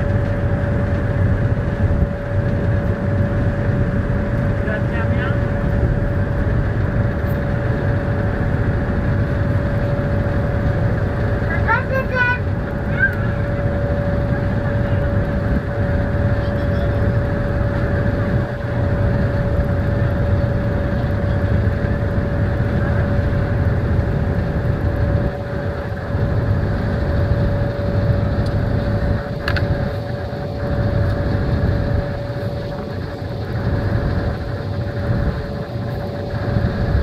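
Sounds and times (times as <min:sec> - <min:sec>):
motorboat engine droning: 0:00.0 - 0:37.0.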